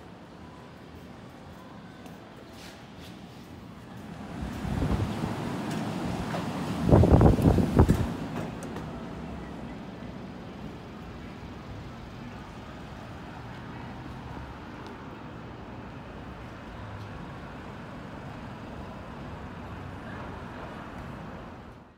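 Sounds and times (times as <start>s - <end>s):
road traffic rumble: 0.2s - 21.9s.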